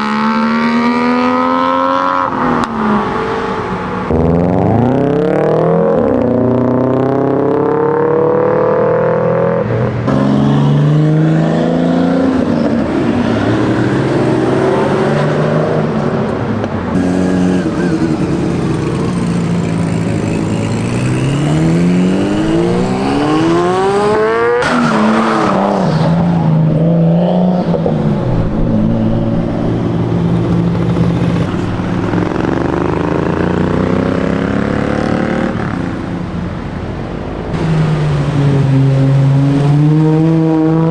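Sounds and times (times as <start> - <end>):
car engines revving and accelerating: 0.0 - 40.9.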